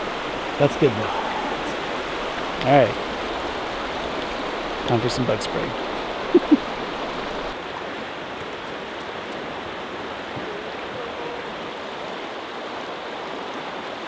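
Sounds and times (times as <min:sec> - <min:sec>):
river rushing over gravel: 0:00.0 - 0:14.0.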